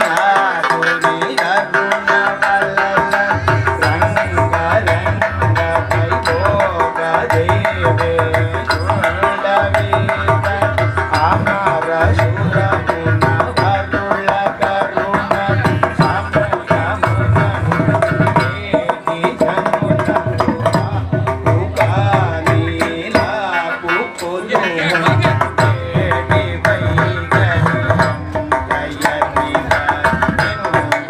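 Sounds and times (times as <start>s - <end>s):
drum strokes and percussion: 0.0s - 31.0s
men singing devotional song: 0.0s - 31.0s.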